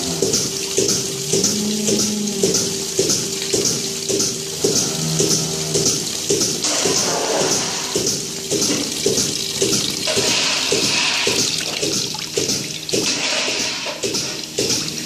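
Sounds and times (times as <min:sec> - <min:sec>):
milk running and splashing: 0:00.0 - 0:15.0.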